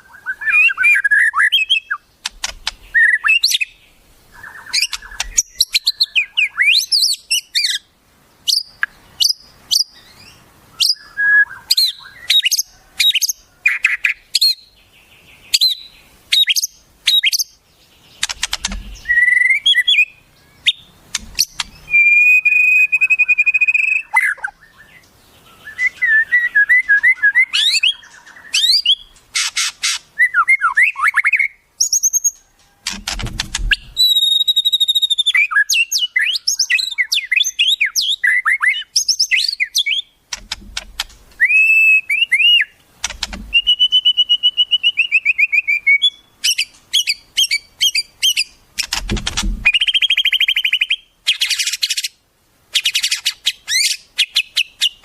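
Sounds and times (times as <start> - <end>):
bird whistles chirps and trills: 0.0 - 33.0, 33.7 - 40.2, 41.4 - 55.0
harsh buzzy bird calls: 0.0 - 55.0.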